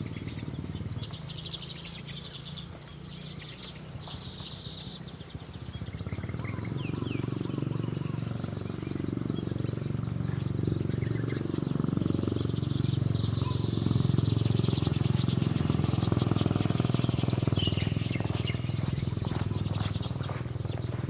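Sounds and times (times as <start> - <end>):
low outdoor rumble: 0.0 - 21.0
small birds chirping: 0.0 - 21.0.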